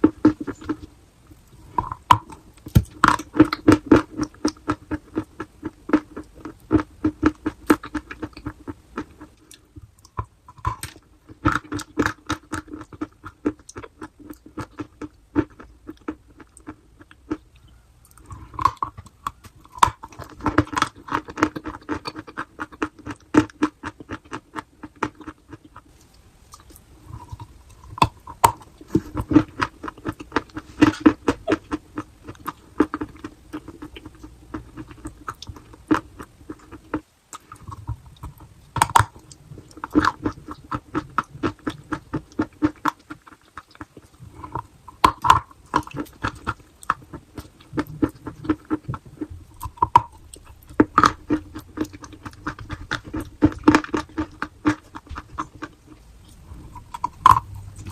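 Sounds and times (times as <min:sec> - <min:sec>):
chewing chalk crunches: 0:00.0 - 0:57.9.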